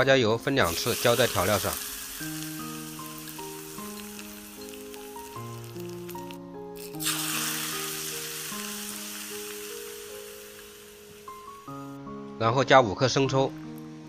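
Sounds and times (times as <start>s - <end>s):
hot oil sizzling: 0.5s - 11.9s.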